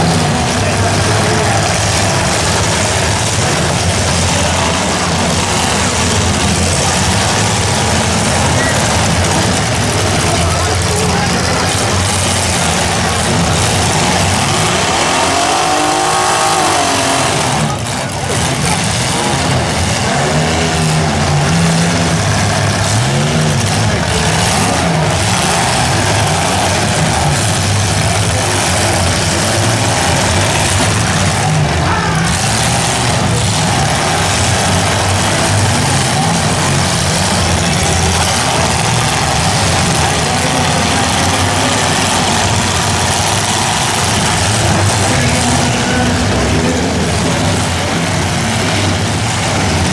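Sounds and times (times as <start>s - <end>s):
car engines revving: 0.0s - 49.9s
cars banging together: 0.0s - 49.9s.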